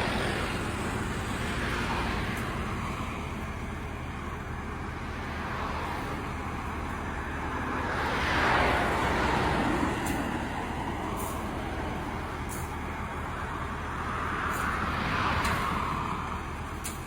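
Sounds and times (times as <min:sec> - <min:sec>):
engine noise: 0:00.0 - 0:17.0.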